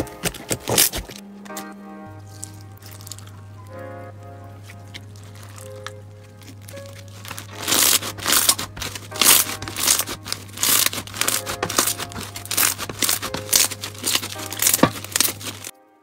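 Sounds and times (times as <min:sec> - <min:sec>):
crunchy slime being squeezed: 0:00.0 - 0:01.2, 0:02.3 - 0:03.9, 0:04.6 - 0:15.7.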